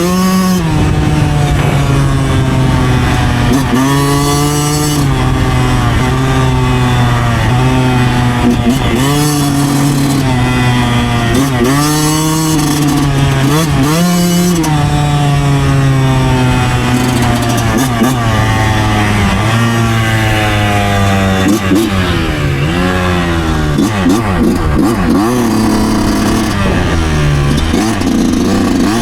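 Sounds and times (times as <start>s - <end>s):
two-stroke engine revving: 0.0s - 29.0s.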